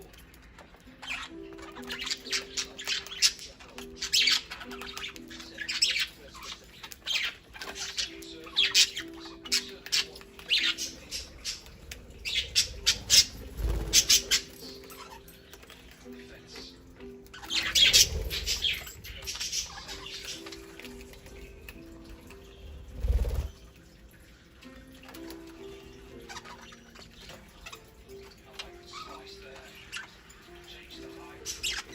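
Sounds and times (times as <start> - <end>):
budgerigars squawking: 0.8 - 15.6, 16.5 - 22.6, 26.0 - 28.0, 28.6 - 31.9.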